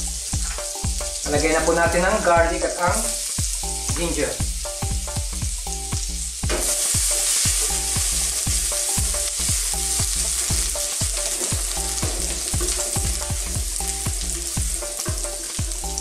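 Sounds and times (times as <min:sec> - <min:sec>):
garlic sizzling in butter: 0:00.0 - 0:16.0.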